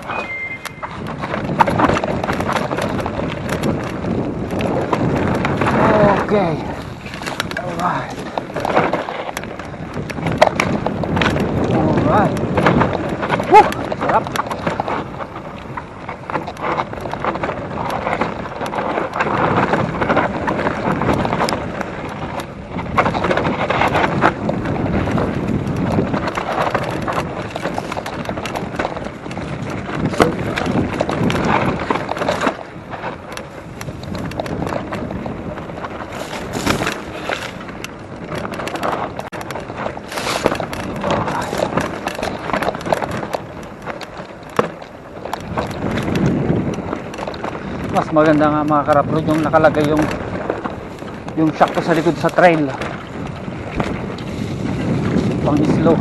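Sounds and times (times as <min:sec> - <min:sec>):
bike tyres on dirt trail: 0:00.0 - 0:56.0
wind buffeting microphone: 0:00.0 - 0:56.0
bike clattering over bumps: 0:00.7 - 0:56.0.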